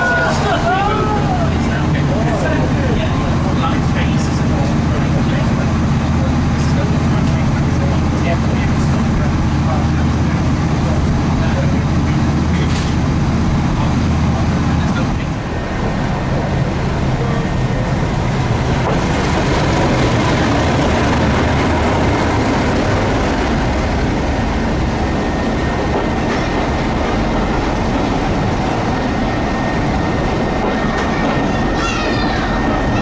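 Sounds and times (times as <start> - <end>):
diesel train passing: 0.0 - 33.0.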